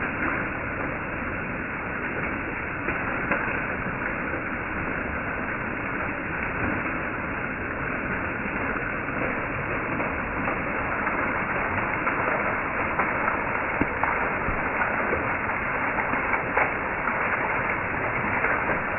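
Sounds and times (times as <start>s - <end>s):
faint water splatters: 0.0s - 18.9s
small waterfall splashing: 0.0s - 18.9s.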